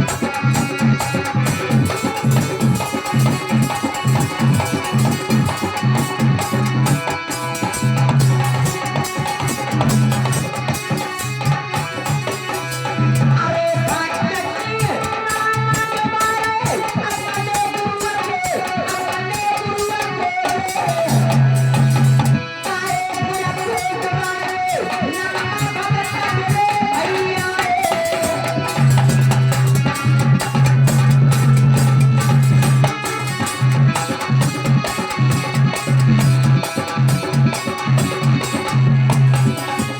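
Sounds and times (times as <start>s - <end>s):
drums: 0.0s - 39.9s.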